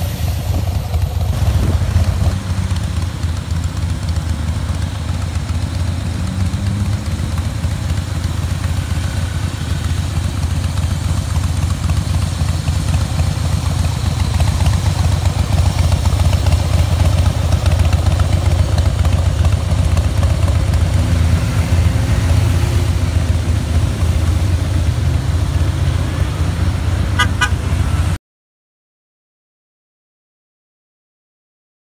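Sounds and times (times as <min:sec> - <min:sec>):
motorcycle engine running: 0:00.0 - 0:28.2.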